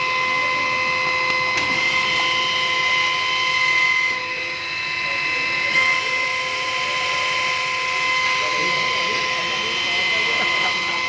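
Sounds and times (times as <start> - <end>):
baler mechanical whine: 0.0 - 11.0.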